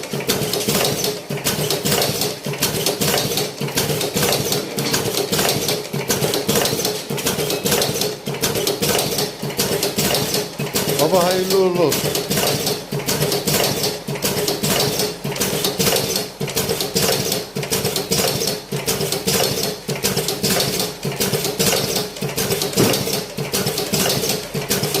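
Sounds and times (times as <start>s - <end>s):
rolling machine clattering clicks: 0.0s - 25.0s.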